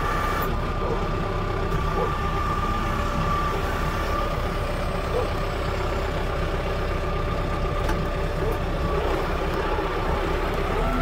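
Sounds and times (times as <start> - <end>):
tractor diesel engine rumbling: 0.0 - 11.0.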